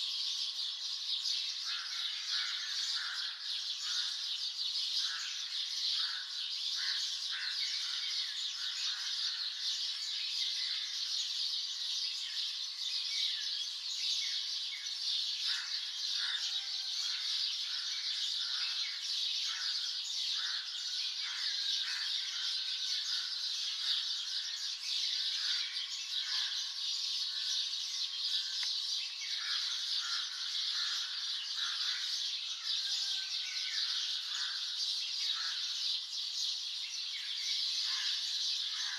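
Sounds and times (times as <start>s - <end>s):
many birds chirping: 0.0s - 38.9s.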